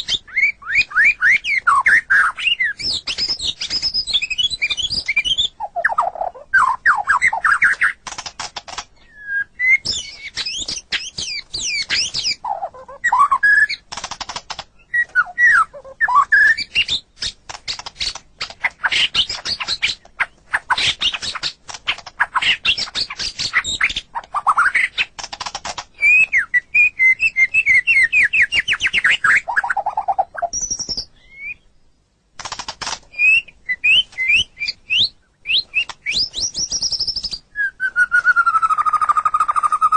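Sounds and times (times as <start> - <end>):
bird singing trills and whistles: 0.0 - 8.0, 8.6 - 13.9, 14.7 - 25.2, 25.9 - 31.8, 33.1 - 39.9.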